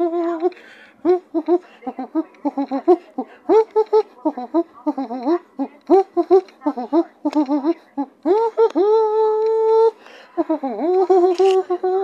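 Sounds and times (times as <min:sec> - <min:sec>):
person vocalizing high-pitched syllables: 0:00.0 - 0:12.0.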